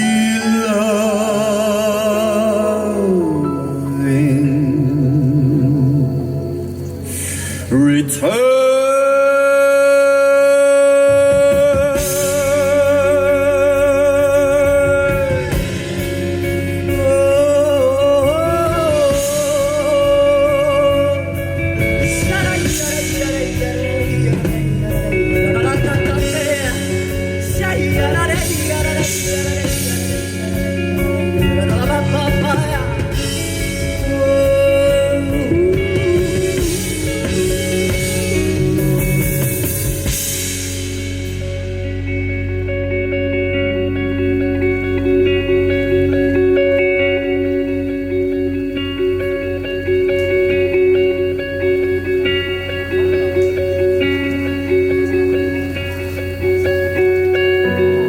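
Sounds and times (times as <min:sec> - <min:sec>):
electric guitar note bending: 0:00.0 - 0:58.0
live band playing: 0:00.0 - 0:58.0.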